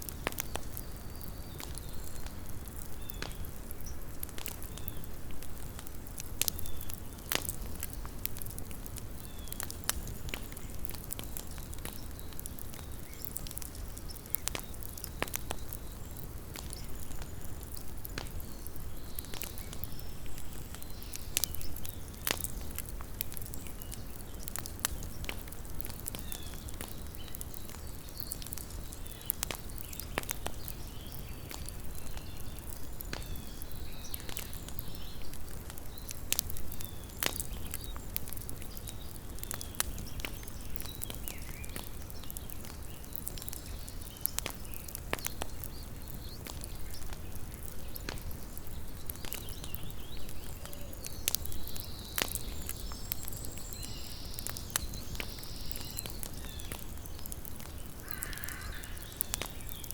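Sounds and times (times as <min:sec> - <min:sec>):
campfire crackling and popping: 0:00.0 - 0:59.9
low rumble of flames: 0:00.0 - 0:59.9.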